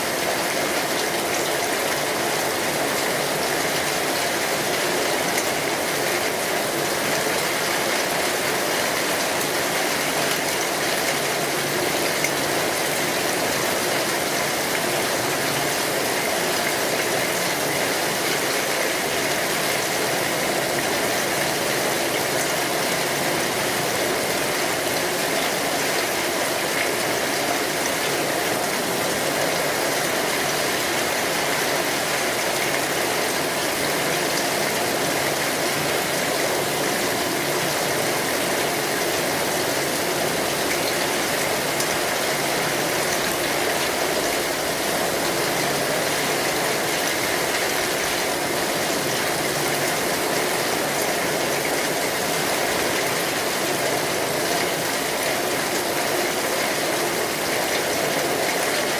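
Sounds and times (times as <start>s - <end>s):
rain on an umbrella: 0.0s - 58.9s.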